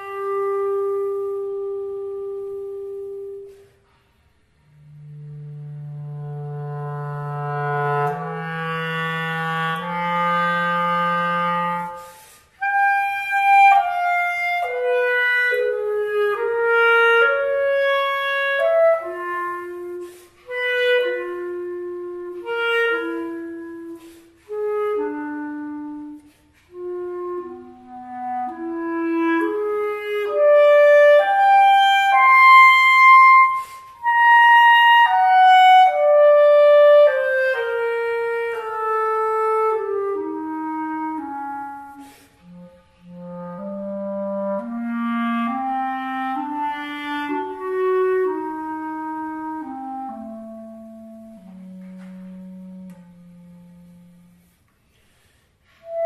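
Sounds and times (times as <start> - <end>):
solo clarinet: 0.0 - 56.0.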